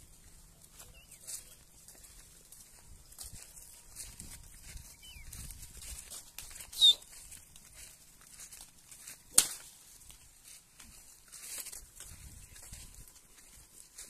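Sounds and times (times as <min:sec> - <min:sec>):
flock moving on grass: 0:00.0 - 0:14.0.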